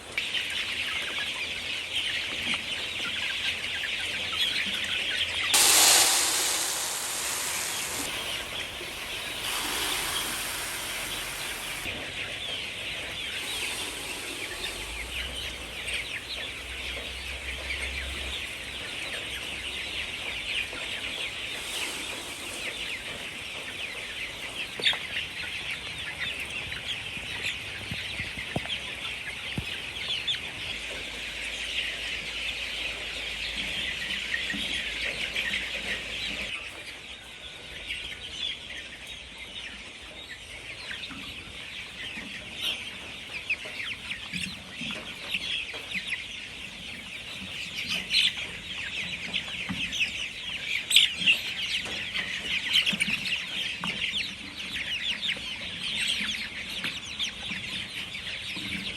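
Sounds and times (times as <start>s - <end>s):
chickens clucking and cheeping: 0.0s - 58.9s.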